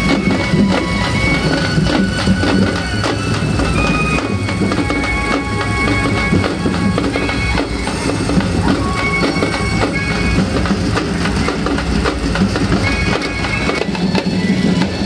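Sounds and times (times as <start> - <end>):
loud amplified band music: 0.0 - 15.0.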